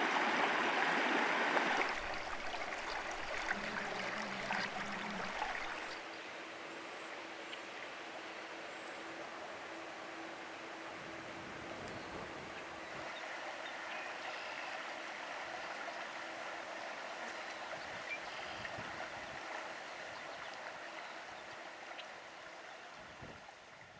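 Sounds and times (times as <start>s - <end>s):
creek babbling over rocks: 0.0s - 23.9s.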